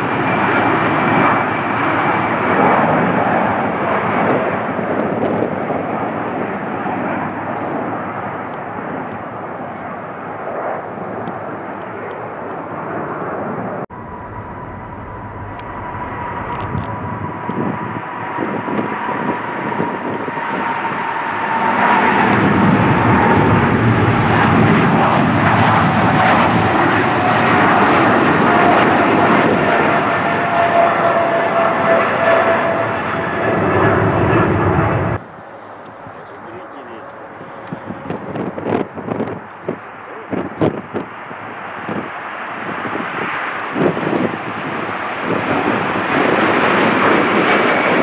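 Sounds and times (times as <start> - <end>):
jet engine roar and whine: 0.0 - 48.0
jet engine rumble: 0.0 - 48.0.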